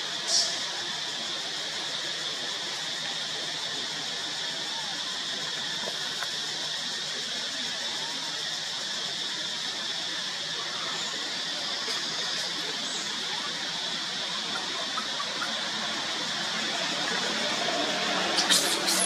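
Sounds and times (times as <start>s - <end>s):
high-pitched background hiss: 0.0s - 19.0s.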